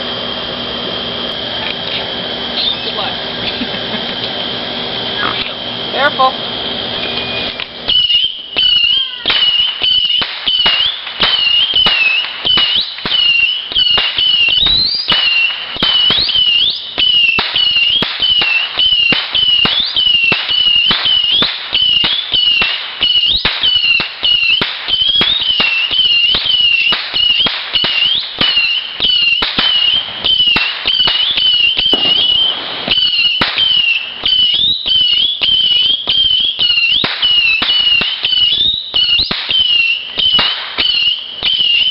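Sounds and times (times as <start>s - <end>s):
firework whistling: 0.0s - 41.9s
firework crackling bangs: 5.9s - 41.9s.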